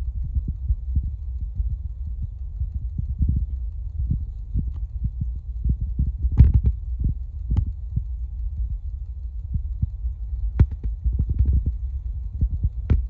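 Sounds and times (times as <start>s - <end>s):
low rumble: 0.0s - 13.0s
sharp clicks: 0.0s - 13.0s.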